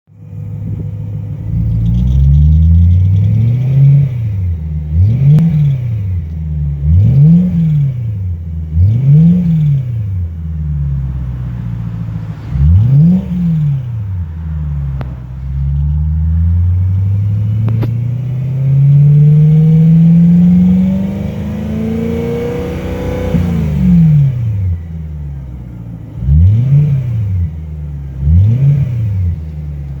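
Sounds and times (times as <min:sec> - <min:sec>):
car engine revving: 0:00.2 - 0:30.0.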